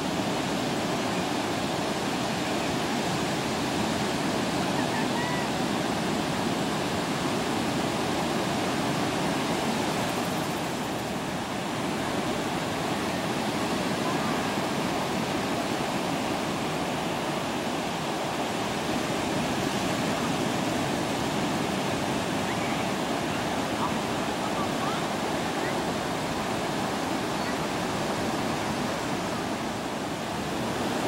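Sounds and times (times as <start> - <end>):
surf washing onto beach: 0.0 - 31.0.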